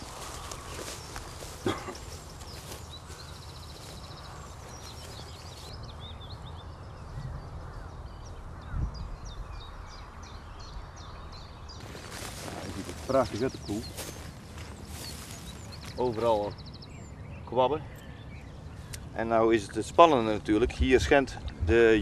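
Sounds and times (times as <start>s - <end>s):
small birds chirping: 0.0s - 21.6s.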